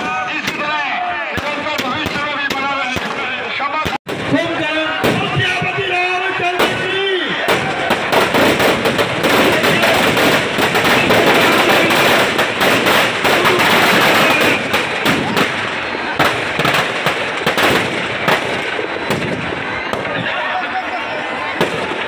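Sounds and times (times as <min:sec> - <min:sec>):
firecrackers crackling and banging: 0:00.0 - 0:22.0.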